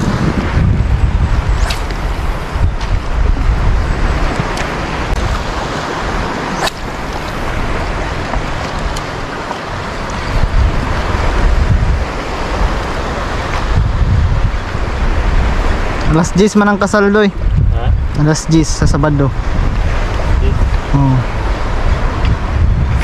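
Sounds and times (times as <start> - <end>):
sea water washing: 0.0 - 23.0
wind buffeting microphone: 0.0 - 23.0.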